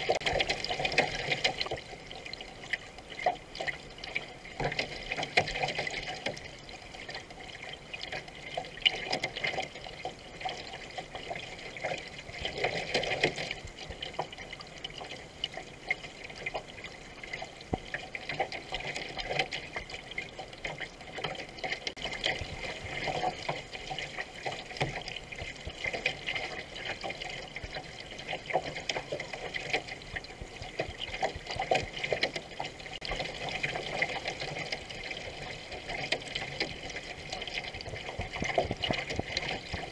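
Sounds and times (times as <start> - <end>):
paddle splashes: 0.0 - 39.9
water gurgling along canoe hull: 0.0 - 39.9.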